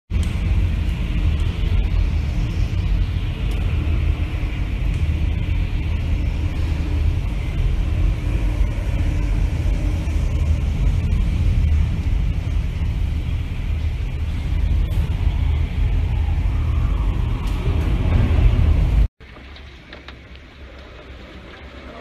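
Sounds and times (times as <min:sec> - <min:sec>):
wind rumbling through window: 0:00.1 - 0:22.0.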